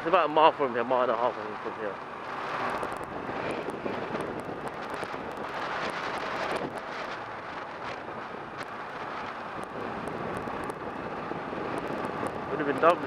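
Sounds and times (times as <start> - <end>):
road noise: 0.0 - 13.0
wind rush on microphone: 0.0 - 13.0
motorcycle engine running: 2.0 - 13.0.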